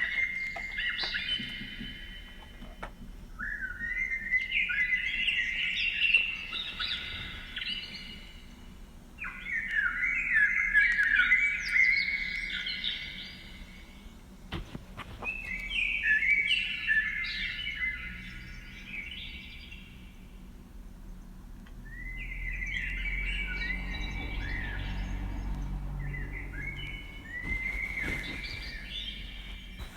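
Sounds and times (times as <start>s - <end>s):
bird chirping: 0.0s - 14.3s, 15.0s - 29.9s.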